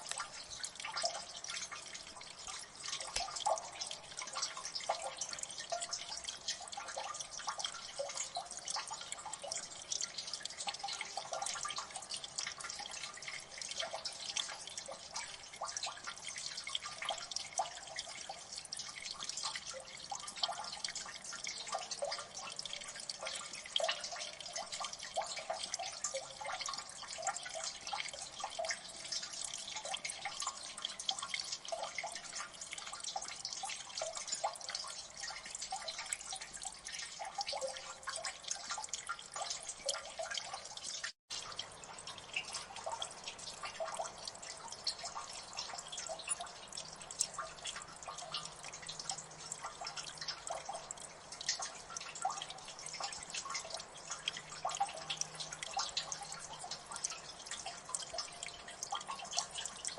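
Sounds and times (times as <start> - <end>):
faint water trickle: 0.0 - 59.9
water dripping and splashing: 0.0 - 59.9.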